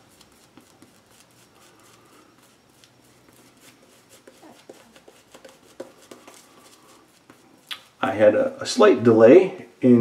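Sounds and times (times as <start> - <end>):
shaving brush swishing: 0.0 - 8.8.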